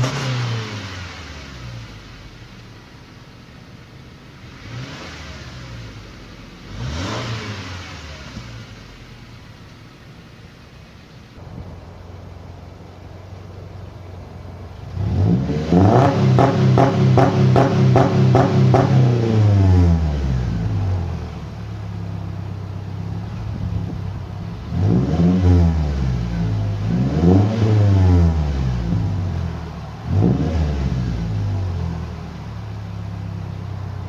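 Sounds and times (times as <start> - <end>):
car engine revving and idling: 0.0 - 34.0.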